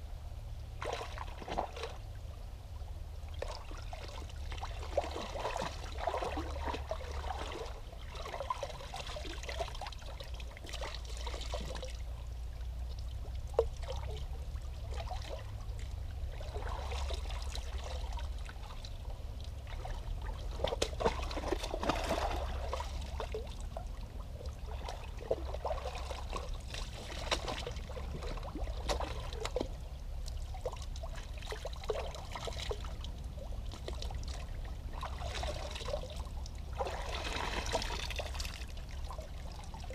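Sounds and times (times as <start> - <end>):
low steady rumble: 0.0 - 39.9
feet splashing in water: 0.7 - 2.2, 3.3 - 12.4, 13.1 - 39.9.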